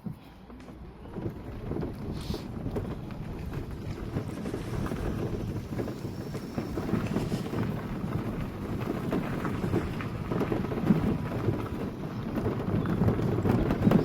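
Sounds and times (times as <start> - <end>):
car tyres rolling over gravel: 0.5 - 14.0.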